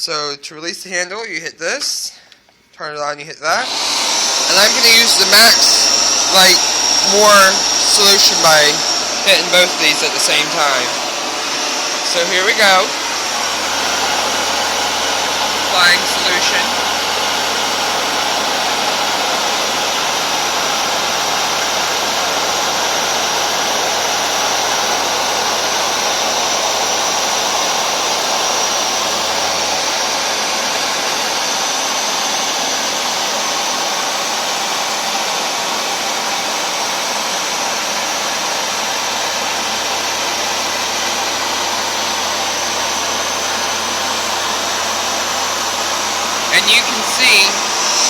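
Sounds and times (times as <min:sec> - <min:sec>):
carpet washer motor whooshing: 0:03.6 - 0:48.0.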